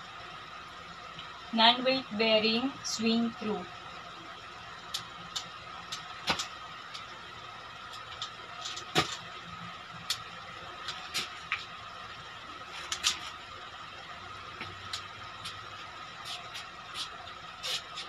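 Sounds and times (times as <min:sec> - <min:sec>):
faint high hum: 0:00.0 - 0:18.0.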